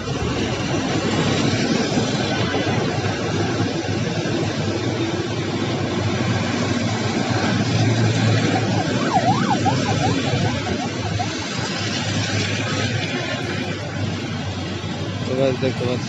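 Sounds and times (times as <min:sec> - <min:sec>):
warbling siren: 0:00.0 - 0:14.6
street traffic: 0:00.0 - 0:16.0.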